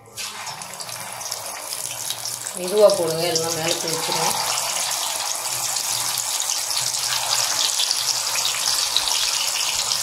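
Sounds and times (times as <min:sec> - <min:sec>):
fish deep-frying in oil: 0:00.1 - 0:10.0.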